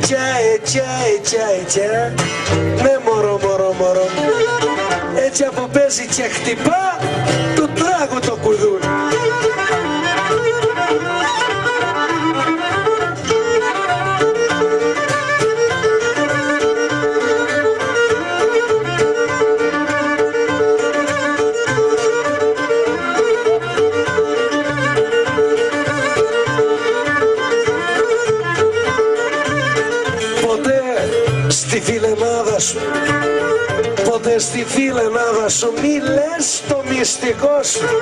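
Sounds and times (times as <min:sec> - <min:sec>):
bowed lyra melody: 0:00.0 - 0:38.0
plucked lute and guitar accompaniment: 0:00.0 - 0:38.0.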